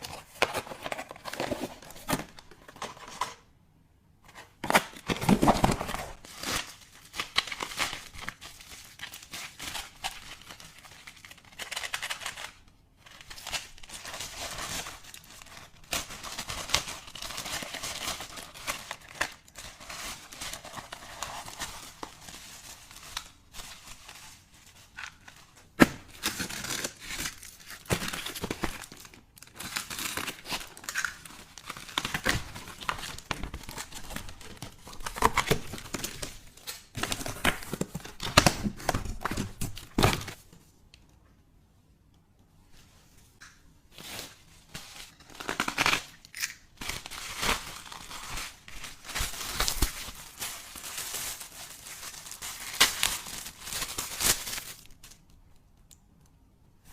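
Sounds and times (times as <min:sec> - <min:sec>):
packaging crinkling and tearing: 0:04.6 - 0:40.4, 0:44.0 - 0:55.4.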